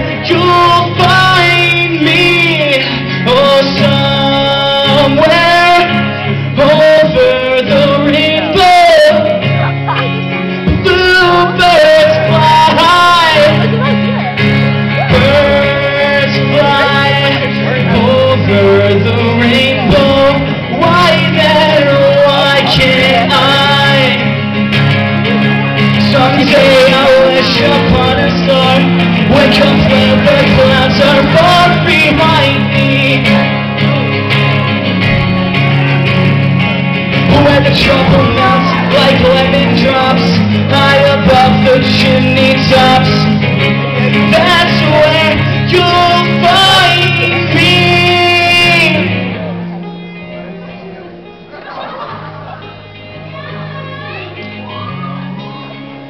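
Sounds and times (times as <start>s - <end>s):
man singing: 0.0s - 49.6s
acoustic guitar: 0.0s - 56.0s.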